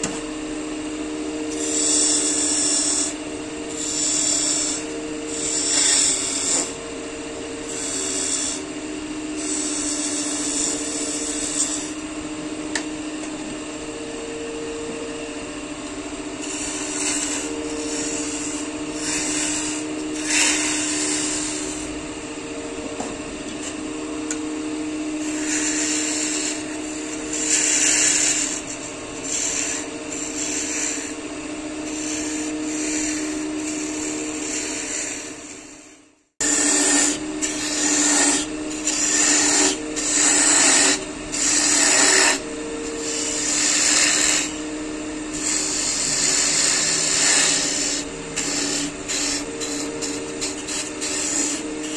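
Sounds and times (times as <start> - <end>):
wood lathe motor hum: 0.0 - 51.9
tool cutting spinning wood: 1.2 - 12.1, 16.3 - 22.0, 23.0 - 51.9.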